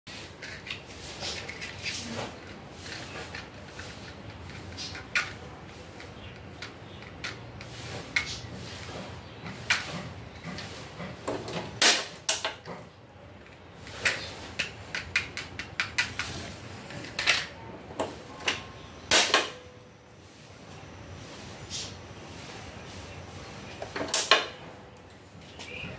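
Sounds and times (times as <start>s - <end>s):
gas burner igniting: 0.3s - 12.8s, 13.7s - 24.9s.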